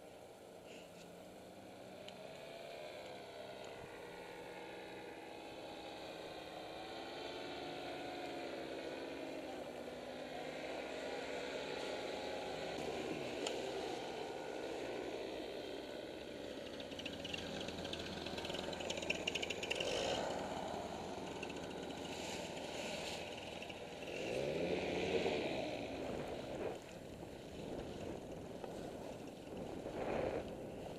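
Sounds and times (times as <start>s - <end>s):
two-stroke paramotor engines: 0.0s - 30.9s.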